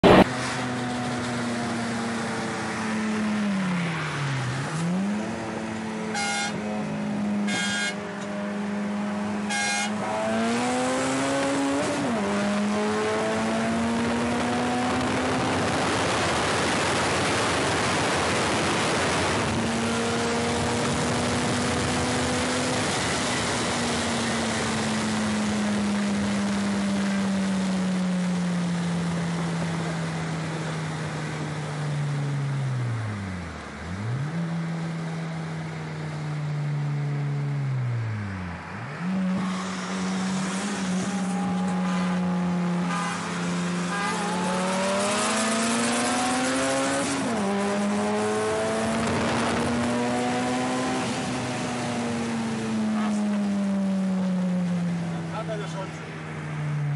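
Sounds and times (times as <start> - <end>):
car engine pulling hard: 0.0 - 56.6
wind and road noise: 0.0 - 56.9.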